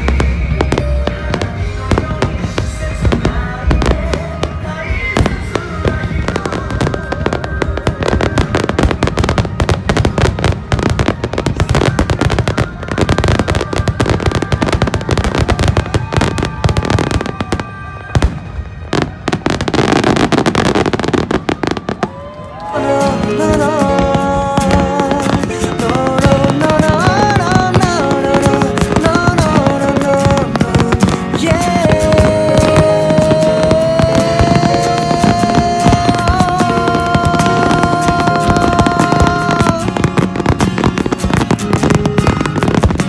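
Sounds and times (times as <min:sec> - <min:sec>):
fireworks bursting and crackling: 0:00.0 - 0:43.0
music playing: 0:00.0 - 0:43.0.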